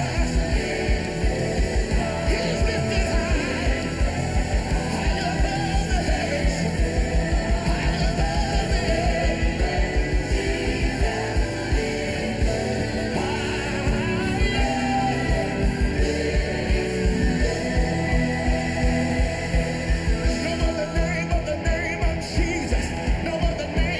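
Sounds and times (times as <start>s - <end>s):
band playing gospel music: 0.0s - 23.9s
fast driving drum beat: 0.0s - 23.9s
voices singing: 0.0s - 23.9s.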